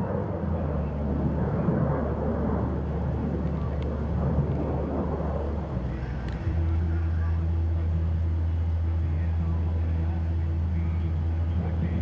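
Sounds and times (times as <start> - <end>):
distant aircraft rumble: 0.0 - 12.0.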